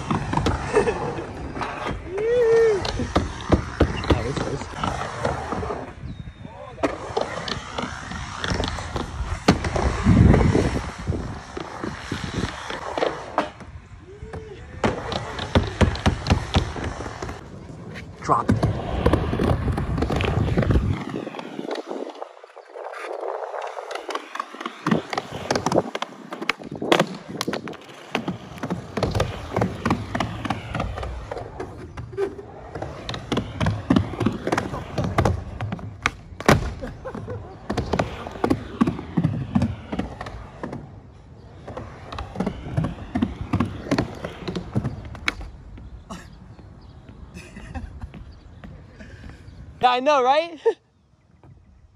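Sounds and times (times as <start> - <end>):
skateboard wheels rolling: 0.0 - 51.9.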